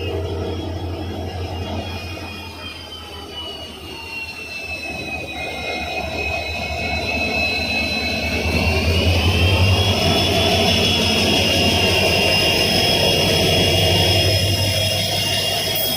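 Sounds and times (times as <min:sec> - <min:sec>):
deep diesel engine drone: 0:00.0 - 0:15.9
turbocharger whine: 0:00.0 - 0:15.9.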